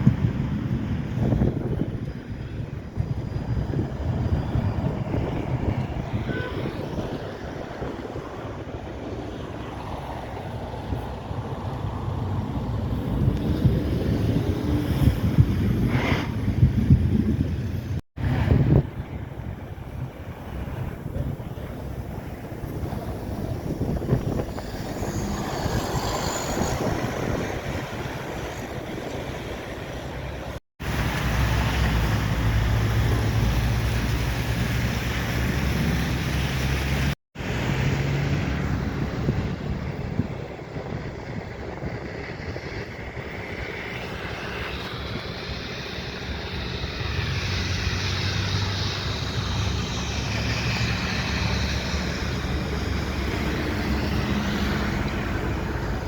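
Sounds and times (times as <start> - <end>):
engine hum of passing vehicles: 0.0 - 56.0.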